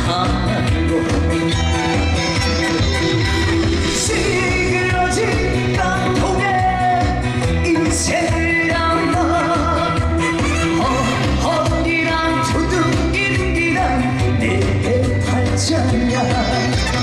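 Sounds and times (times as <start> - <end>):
band backing track with beat: 0.0 - 17.0
person singing live: 0.0 - 17.0.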